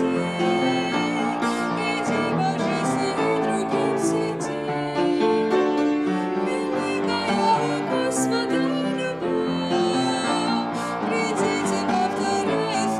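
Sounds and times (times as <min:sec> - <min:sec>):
grand piano: 0:00.0 - 0:12.9
woman singing: 0:00.0 - 0:12.9.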